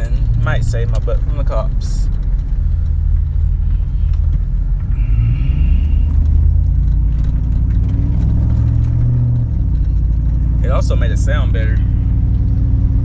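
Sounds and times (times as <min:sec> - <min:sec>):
vehicle exhaust low rumble: 0:00.0 - 0:13.0.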